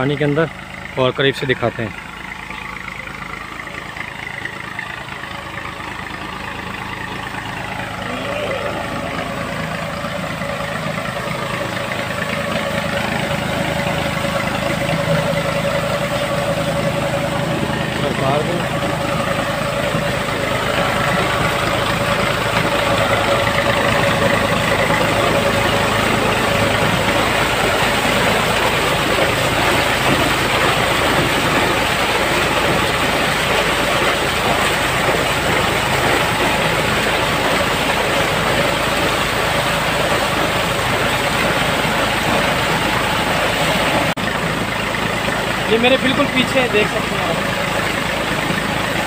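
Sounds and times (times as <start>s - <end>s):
water pouring and splashing: 0.0s - 49.0s.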